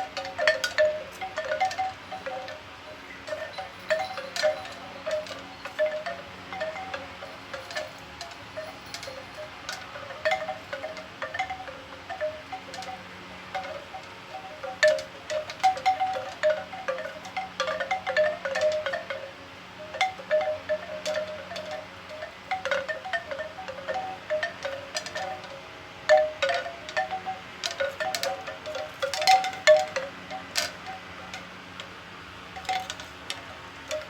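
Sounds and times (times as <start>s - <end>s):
bamboo wind chime knocking: 0.0s - 31.9s, 32.6s - 34.0s.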